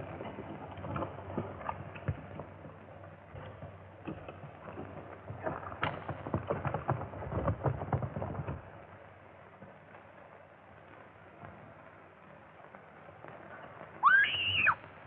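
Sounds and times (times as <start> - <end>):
horses galloping hoofbeats: 0.0 - 15.0.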